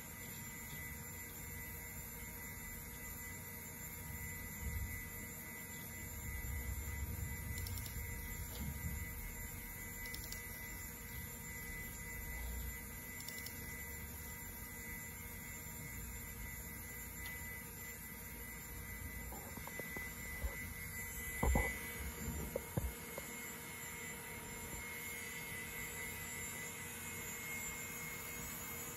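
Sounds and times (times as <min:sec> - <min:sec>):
computer fans whirring: 0:00.0 - 0:28.9
faint high whine: 0:00.0 - 0:28.9.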